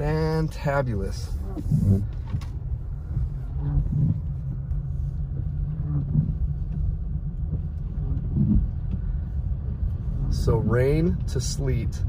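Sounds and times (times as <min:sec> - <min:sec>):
car engine and tyres on wet road: 0:00.0 - 0:12.0.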